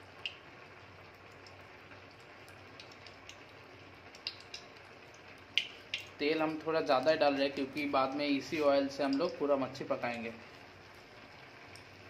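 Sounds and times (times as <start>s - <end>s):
faint steady hiss: 0.0s - 12.0s
oil trickling into hot pan: 0.0s - 12.0s.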